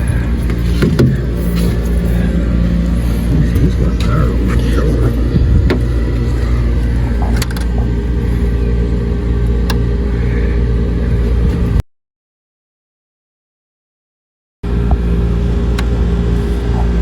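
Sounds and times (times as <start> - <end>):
hvac unit humming: 0.0 - 11.8, 14.6 - 17.0.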